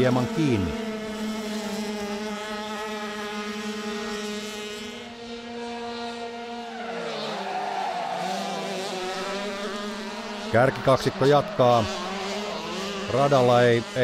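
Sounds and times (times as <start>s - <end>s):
kart engines at high revs: 0.0s - 14.0s.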